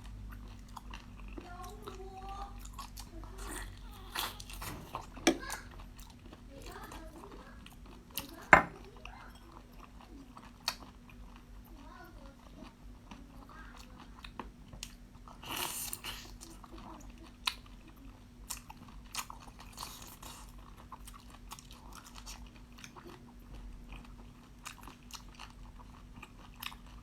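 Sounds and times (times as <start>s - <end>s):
person chewing and crunching: 0.0s - 27.0s.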